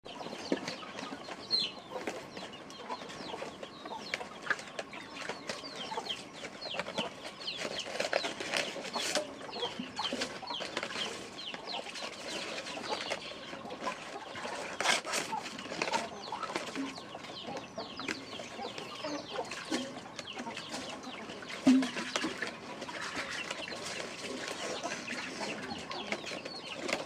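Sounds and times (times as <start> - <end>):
chickens clucking and chirping: 0.0 - 27.0.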